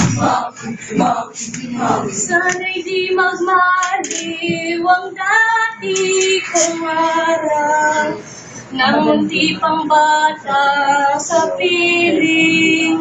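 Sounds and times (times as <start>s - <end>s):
girl singing slow melody: 0.0s - 13.0s.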